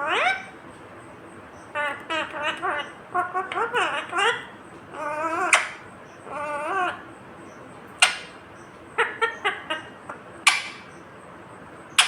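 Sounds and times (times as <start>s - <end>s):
parakeet calling: 0.0s - 0.6s, 1.5s - 11.2s, 11.8s - 12.0s.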